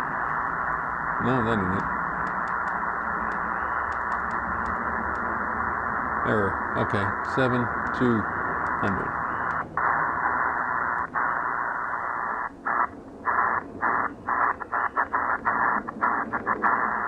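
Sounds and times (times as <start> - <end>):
shortwave radio hissing: 0.0 - 17.0.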